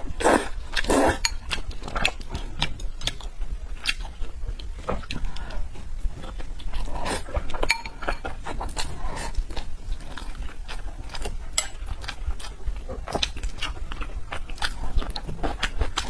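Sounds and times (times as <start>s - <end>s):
person chewing wetly: 0.0s - 16.0s.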